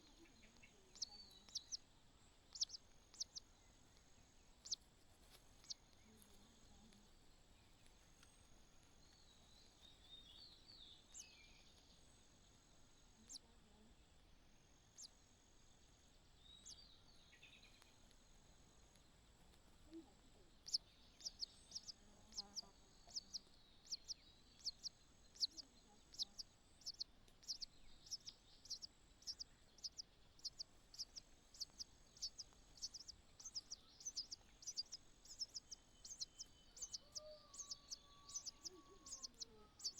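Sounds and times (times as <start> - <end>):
small bird chirping: 0.0 - 12.2, 13.1 - 13.9, 14.9 - 15.2, 16.4 - 39.9.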